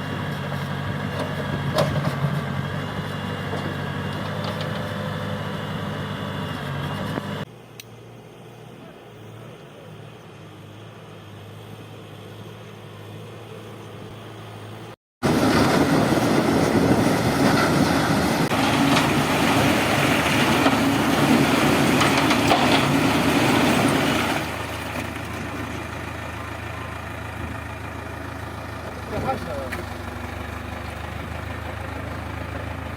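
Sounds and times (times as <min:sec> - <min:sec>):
heavy machine engine running: 0:00.0 - 0:32.9.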